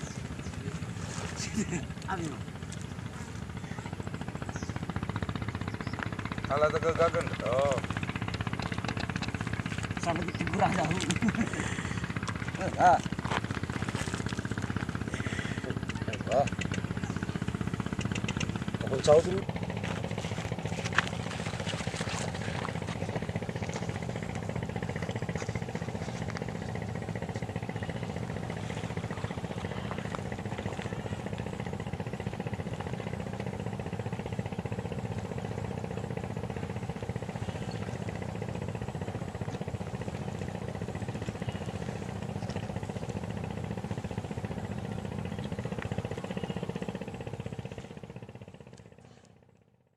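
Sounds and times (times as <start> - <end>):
engine humming steadily: 0.0 - 49.9.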